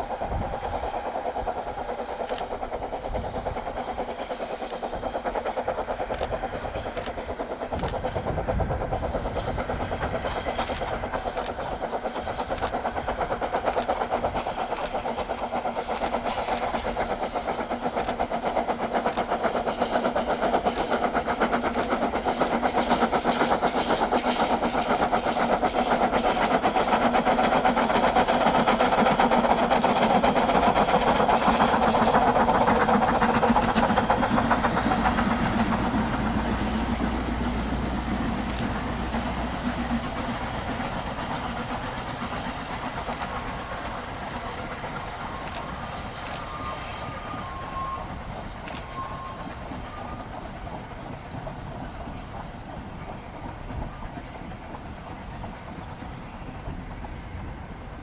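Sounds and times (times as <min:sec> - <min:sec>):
steam train passing: 0:00.0 - 0:58.0.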